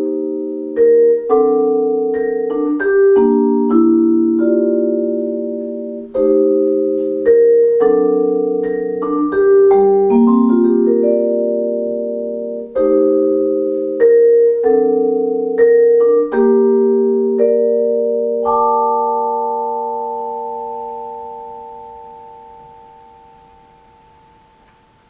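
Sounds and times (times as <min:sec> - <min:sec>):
vibraphone chords: 0:00.0 - 0:25.0.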